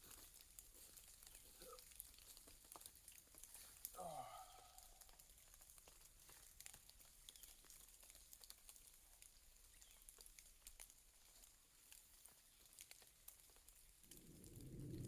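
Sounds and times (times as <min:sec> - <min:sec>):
faint raindrops ticking: 0:00.0 - 0:15.0.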